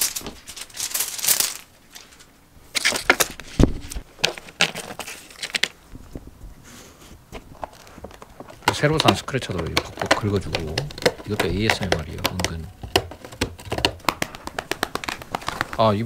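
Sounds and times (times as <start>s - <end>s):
plastic-film toy crinkling: 0.0s - 3.6s, 4.2s - 5.8s, 7.6s - 16.0s.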